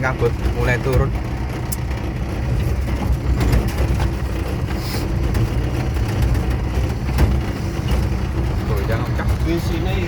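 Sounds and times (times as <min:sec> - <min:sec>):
faint clicks and rattles: 0:00.0 - 0:10.0
road noise: 0:00.0 - 0:10.0
vehicle engine rumble: 0:00.0 - 0:10.0.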